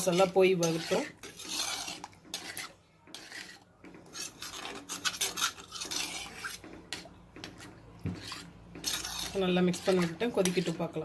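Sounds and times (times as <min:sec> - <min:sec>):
ladle scraping inside clay pot: 0:00.0 - 0:11.0.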